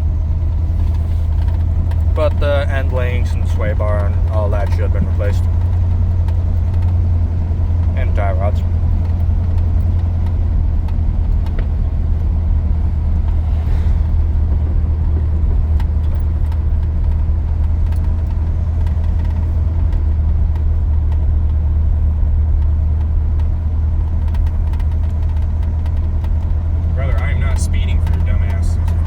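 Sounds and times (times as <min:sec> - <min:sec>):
engine and road drone in cab: 0:00.0 - 0:29.0.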